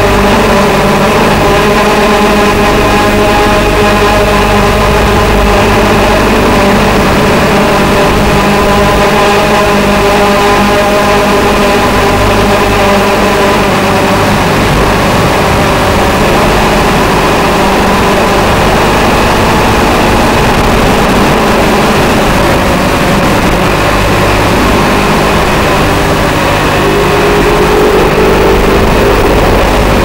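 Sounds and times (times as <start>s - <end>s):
drone motors whirring: 0.0s - 30.0s.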